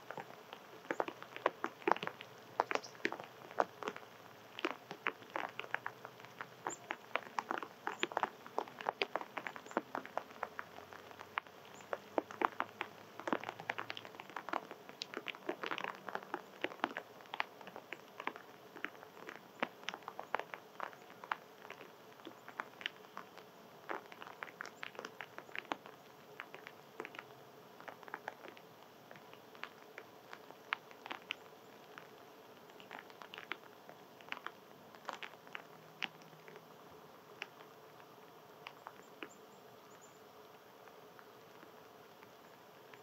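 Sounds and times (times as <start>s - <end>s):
faint steady hum: 0.0s - 43.0s
squirrel cracking and chewing nuts: 0.0s - 43.0s.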